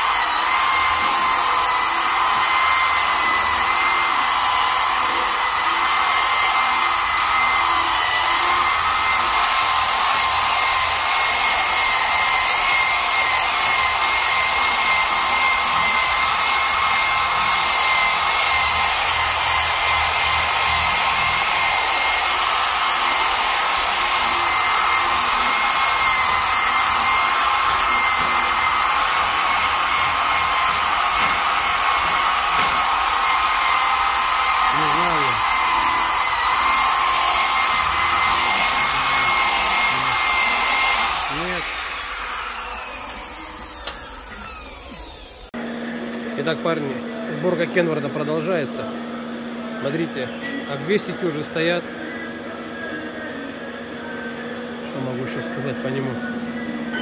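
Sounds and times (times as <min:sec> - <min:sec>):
rotary polisher motor whine: 0:00.0 - 0:57.0.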